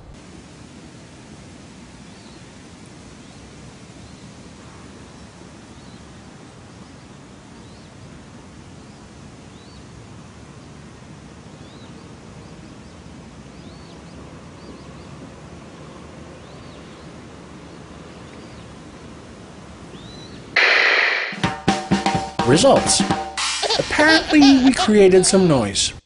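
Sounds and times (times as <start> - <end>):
constant low noise: 0.0 - 26.0.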